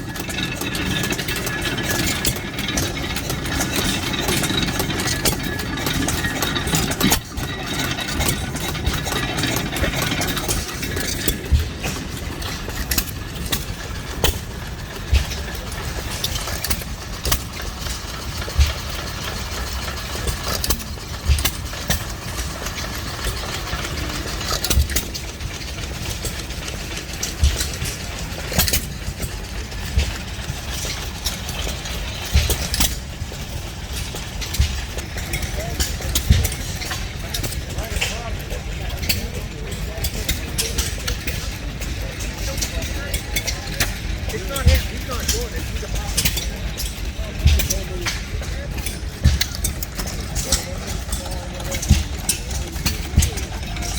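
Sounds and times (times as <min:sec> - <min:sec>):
steady engine hum: 0:00.0 - 0:53.9.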